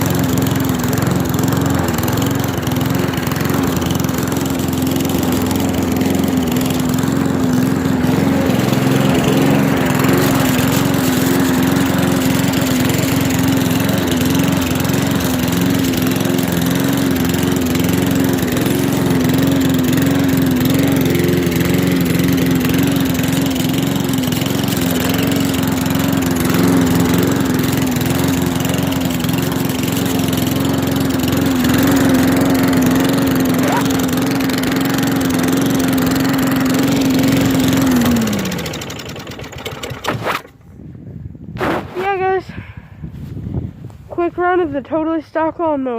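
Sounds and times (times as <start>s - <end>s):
lawn mower engine running: 0.0s - 40.8s.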